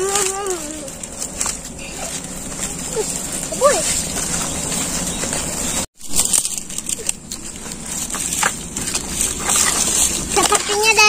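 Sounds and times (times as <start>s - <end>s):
fire crackling: 0.0s - 11.0s
leaves rustling: 0.0s - 11.0s.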